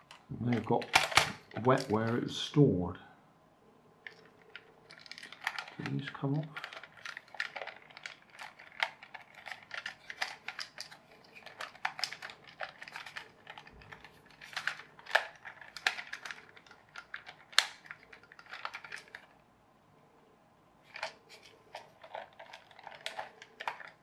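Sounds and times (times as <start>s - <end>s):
plastic toy clicking and tapping: 0.0s - 2.0s, 4.1s - 19.3s, 20.9s - 24.0s.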